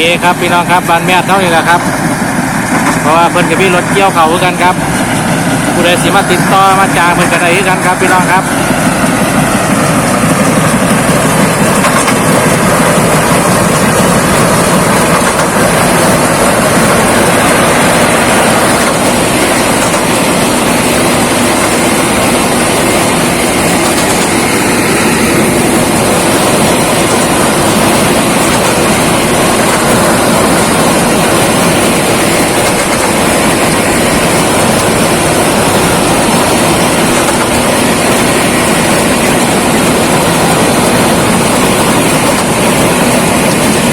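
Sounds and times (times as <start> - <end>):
combine harvester clattering: 0.0 - 43.9.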